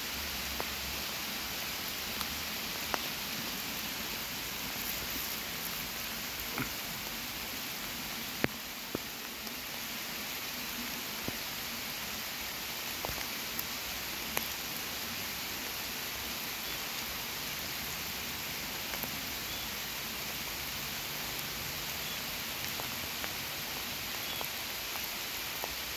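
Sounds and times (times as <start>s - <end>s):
heavy rain hissing: 0.0s - 25.9s
raindrops ticking close by: 0.1s - 25.9s.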